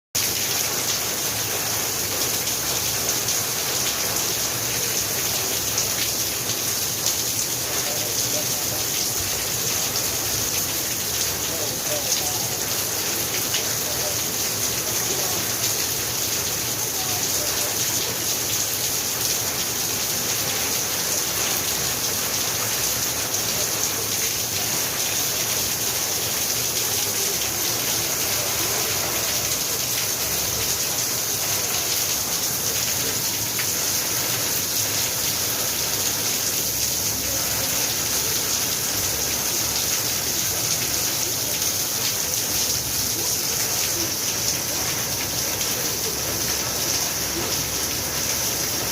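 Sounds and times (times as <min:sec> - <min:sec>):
steady rain falling: 0:00.2 - 0:48.9.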